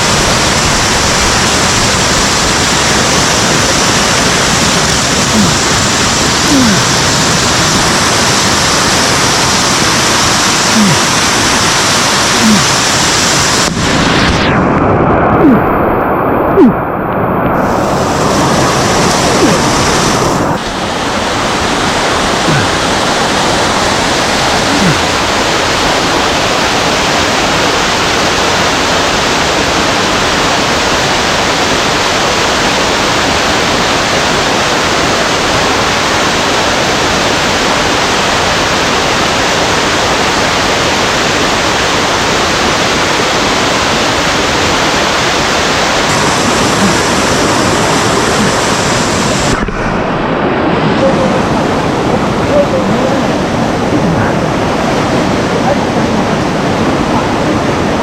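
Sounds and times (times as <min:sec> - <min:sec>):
stream water rushing over cascades: 0:00.0 - 0:58.0.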